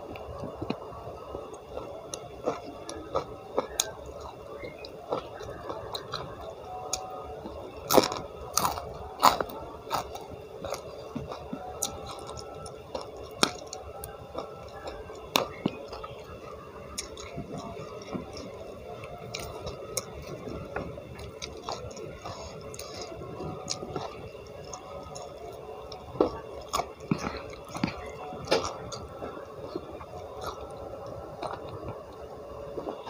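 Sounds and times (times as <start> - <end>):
chewing with wet mouth sounds: 0.0 - 33.0.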